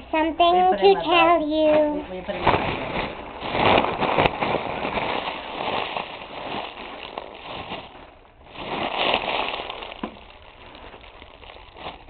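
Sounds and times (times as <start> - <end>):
foil balloon crinkling: 2.3 - 12.0.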